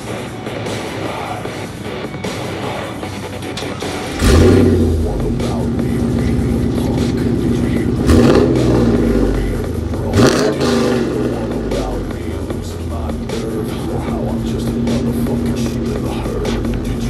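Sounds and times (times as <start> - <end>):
car engine idling rumble: 0.0 - 17.0
engine revving: 0.0 - 17.0.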